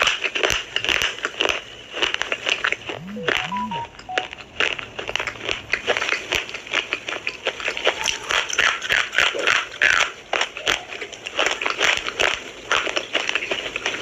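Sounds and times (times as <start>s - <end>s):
crunching and chewing slate pencils: 0.0s - 3.0s, 4.3s - 14.0s.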